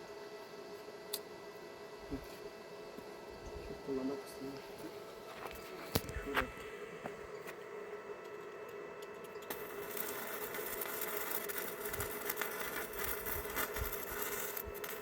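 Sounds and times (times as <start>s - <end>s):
steady hum: 0.0s - 15.0s
welding arc crackling and sizzling: 0.0s - 15.0s.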